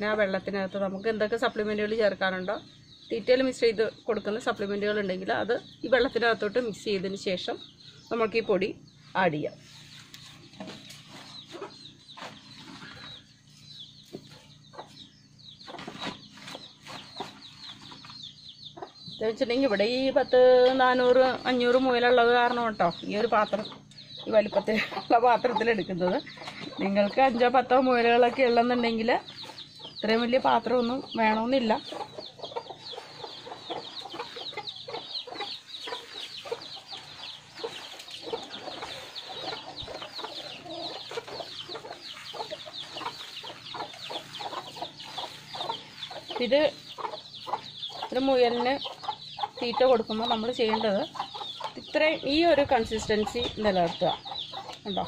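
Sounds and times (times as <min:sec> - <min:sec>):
chickens chirping: 0:00.0 - 0:55.0.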